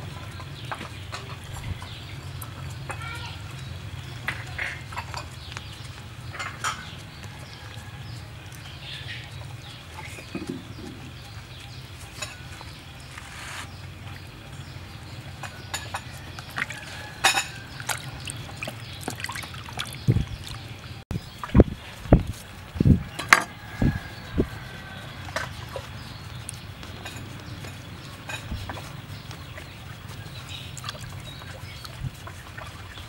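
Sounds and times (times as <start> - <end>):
water sloshing and splashing: 0.0 - 33.0.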